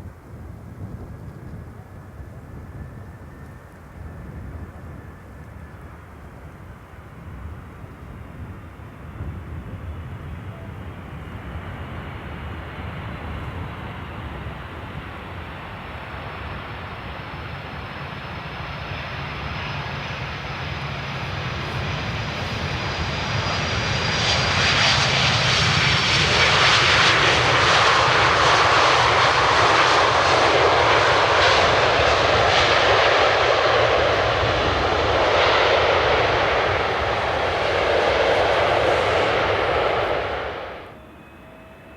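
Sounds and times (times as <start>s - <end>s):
jet airliner engines rushing: 0.2s - 41.9s.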